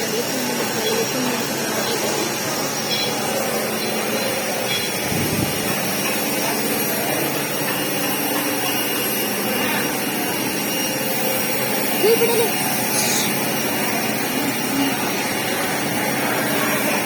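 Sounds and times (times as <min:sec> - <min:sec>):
steady machine noise: 0:00.0 - 0:17.0.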